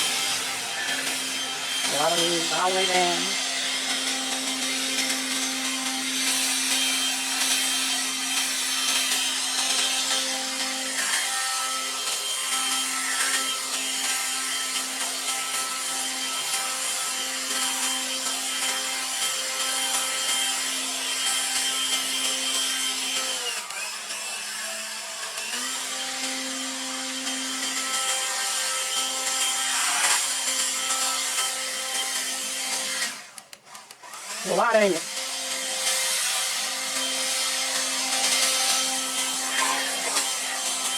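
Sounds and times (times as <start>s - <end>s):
leaf blower running: 0.0s - 27.8s, 33.8s - 40.9s.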